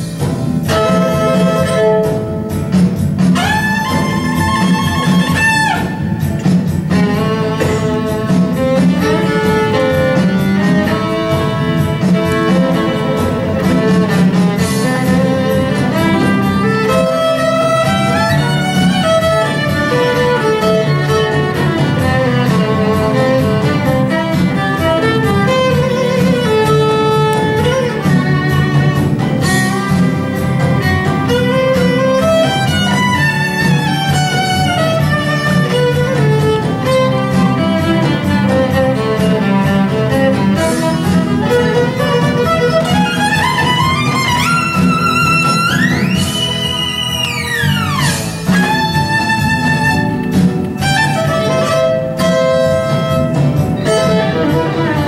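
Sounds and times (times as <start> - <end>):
low steady backing: 0.0 - 55.0
violin melody: 0.0 - 55.0.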